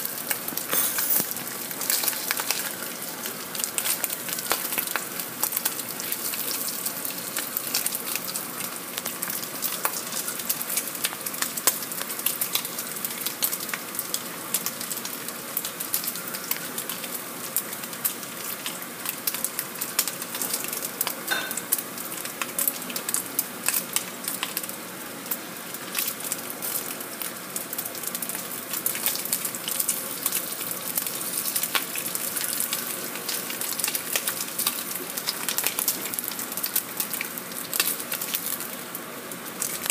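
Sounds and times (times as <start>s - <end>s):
bacon sizzling and popping: 0.0s - 39.9s.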